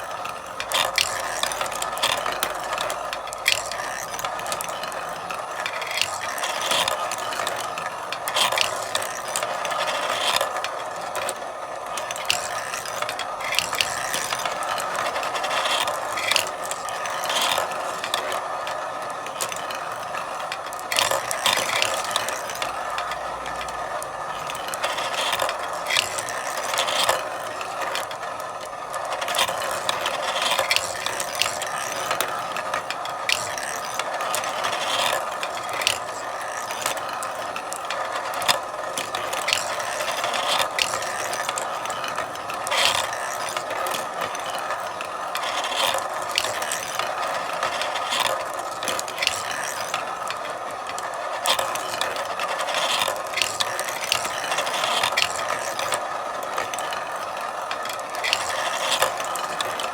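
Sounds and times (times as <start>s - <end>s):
marbles rolling on a track: 0.0s - 59.9s.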